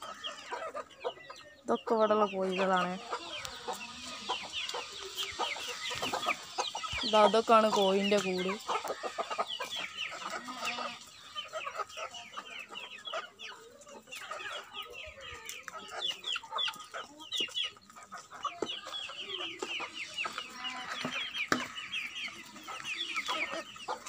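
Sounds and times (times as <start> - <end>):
chickens clucking and calling: 0.0 - 24.0.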